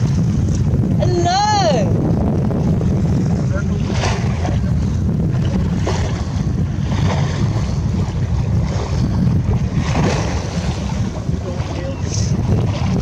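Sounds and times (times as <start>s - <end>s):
waves splashing against hull: 0.0s - 13.0s
wind noise on microphone: 0.0s - 13.0s.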